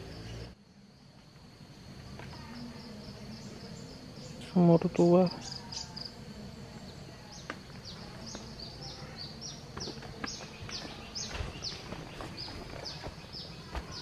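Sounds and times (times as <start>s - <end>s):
insects humming: 0.0s - 14.0s
bird chirping: 2.3s - 14.0s.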